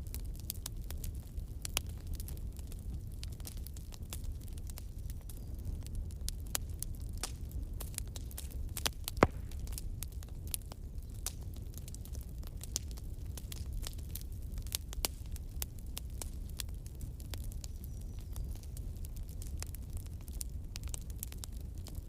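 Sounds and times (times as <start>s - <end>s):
bonfire crackling: 0.0s - 22.0s
fire rumbling: 0.0s - 22.0s.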